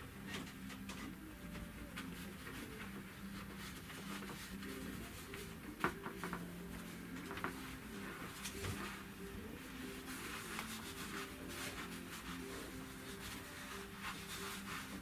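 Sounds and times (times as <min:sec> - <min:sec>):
fabric handling: 0:00.0 - 0:15.0.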